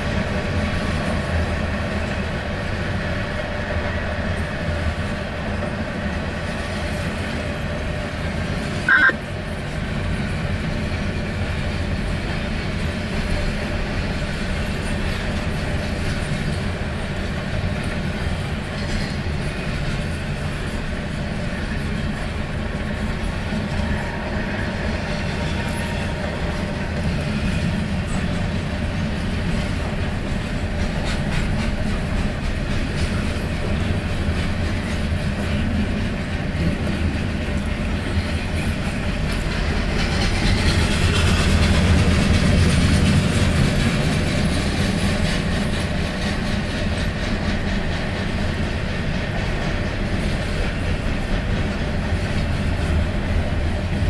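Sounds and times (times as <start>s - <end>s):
freight train rumbling by: 0.0s - 54.0s
wheels clacking over rail joints: 9.6s - 54.0s.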